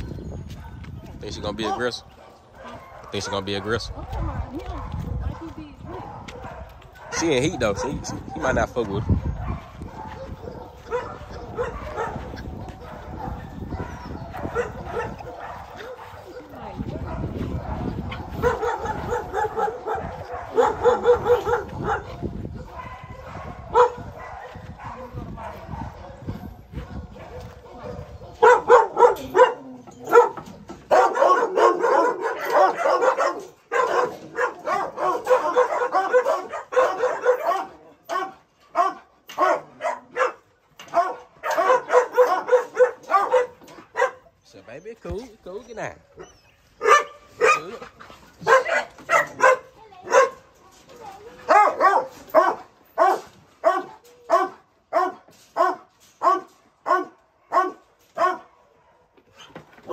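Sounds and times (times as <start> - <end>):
dogs barking: 0.0 - 59.9.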